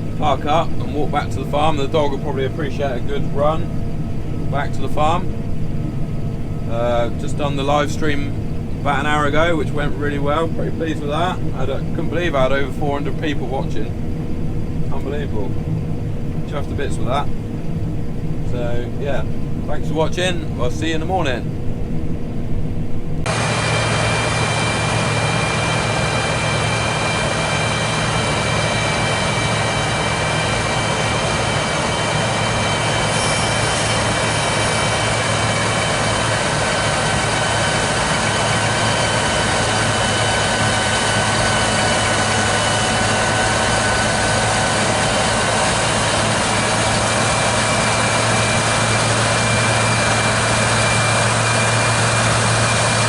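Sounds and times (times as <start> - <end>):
diesel engine running: 0.0 - 53.0
thin high whines: 0.0 - 53.0.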